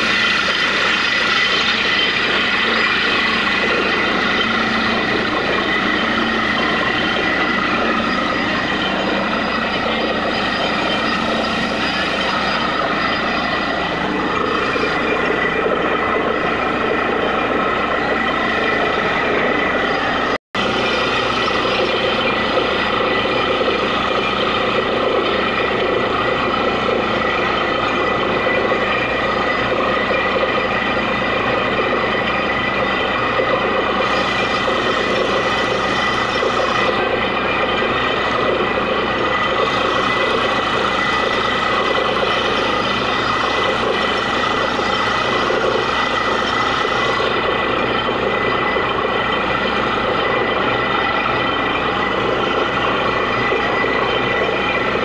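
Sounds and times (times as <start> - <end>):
heavy engine droning: 0.0 - 55.0
held machine whines: 0.0 - 55.0.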